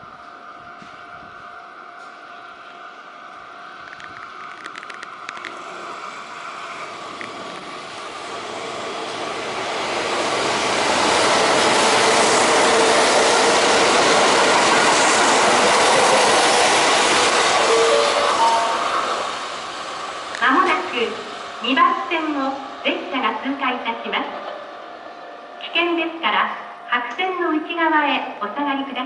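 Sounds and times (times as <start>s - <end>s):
train wheel and rail noise: 0.0s - 29.0s.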